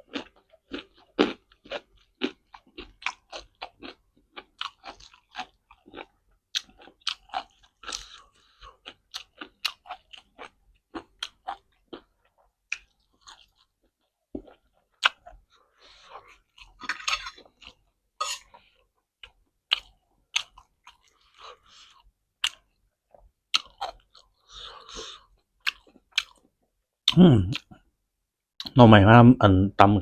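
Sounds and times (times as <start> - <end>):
person chewing crunchy vegetables: 0.0 - 27.8.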